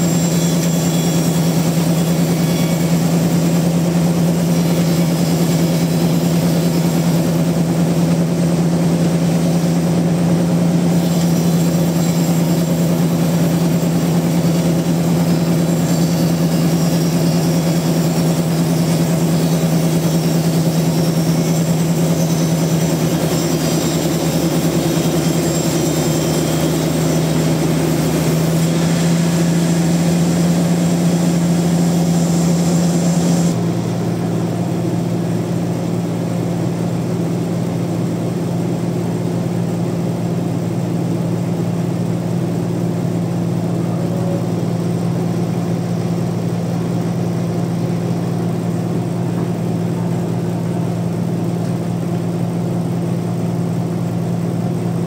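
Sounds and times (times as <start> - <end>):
sawmill engine droning: 0.0 - 55.0.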